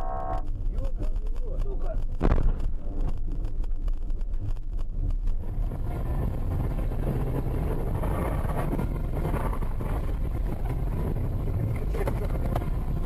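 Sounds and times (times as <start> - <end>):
car driving on snow: 0.0 - 13.0.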